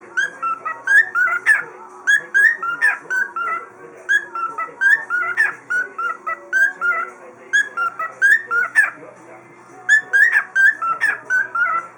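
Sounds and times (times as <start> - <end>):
cockatiel whistling song: 0.1 - 9.0, 9.9 - 11.9.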